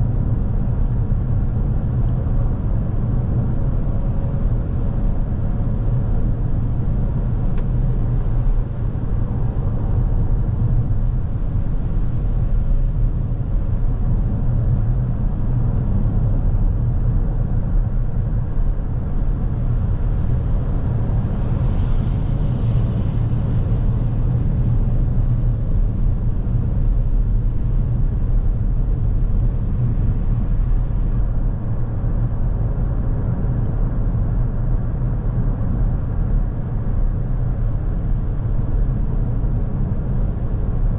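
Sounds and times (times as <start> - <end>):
road and tyre rumble in cabin: 0.0 - 40.9.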